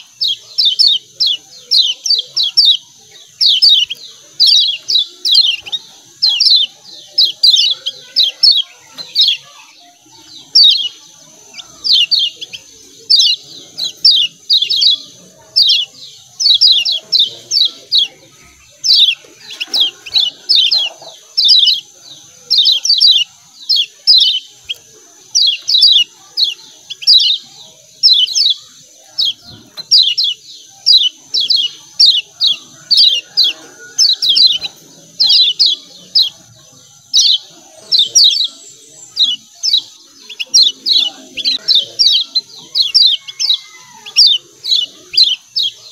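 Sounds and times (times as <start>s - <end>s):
bird chirp calls: 0.0s - 45.9s.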